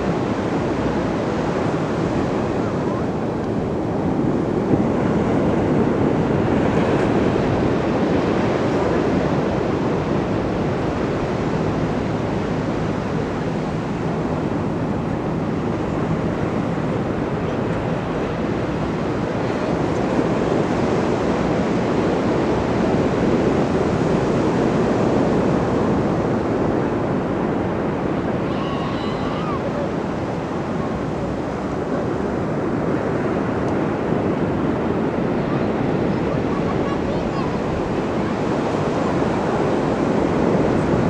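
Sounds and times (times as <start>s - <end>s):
ocean surf rushing onto beach: 0.0s - 41.0s.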